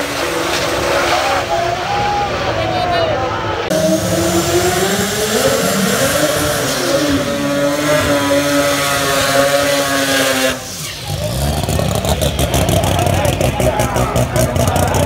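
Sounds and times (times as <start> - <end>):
engine revving and popping: 0.0 - 2.5, 3.6 - 15.0
race car engine at high revs: 0.0 - 15.0.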